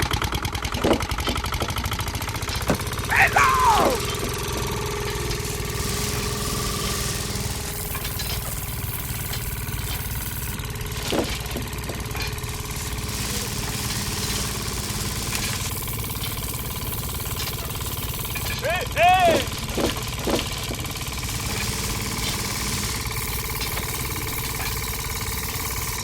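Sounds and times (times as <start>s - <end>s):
small engine chugging: 0.0s - 26.0s.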